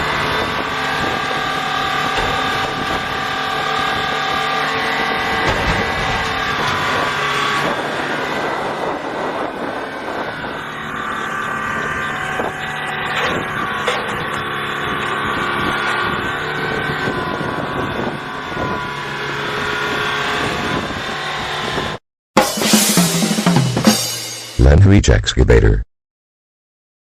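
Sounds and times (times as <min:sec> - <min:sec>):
excavator diesel engine running: 0:00.0 - 0:21.8.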